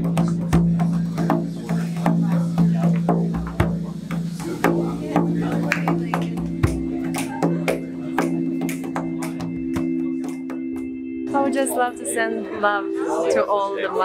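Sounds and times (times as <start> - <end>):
frame drum beats: 0.0 - 11.8.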